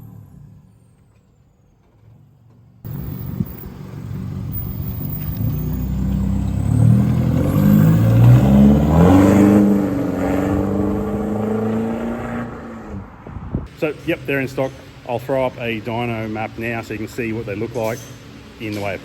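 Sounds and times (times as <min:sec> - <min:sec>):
diesel engine revving: 0:02.9 - 0:19.0.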